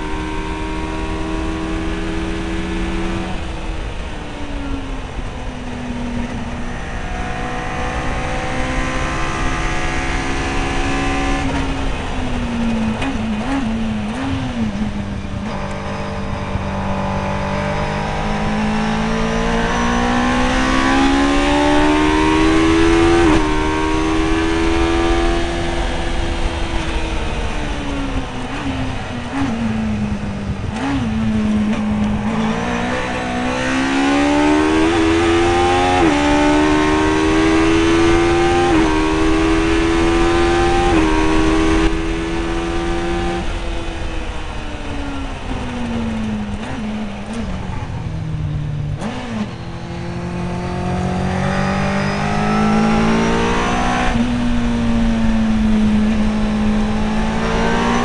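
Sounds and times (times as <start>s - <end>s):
car engine revving: 0.0s - 58.0s
engine throttle blips: 0.0s - 58.0s
wind and road noise: 0.0s - 58.0s.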